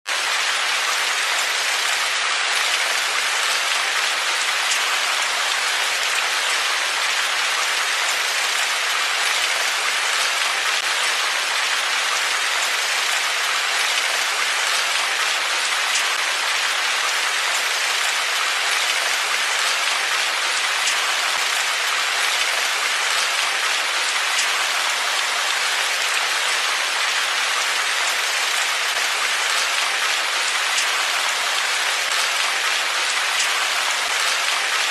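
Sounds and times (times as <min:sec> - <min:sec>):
steady rain hiss: 0:00.2 - 0:34.9.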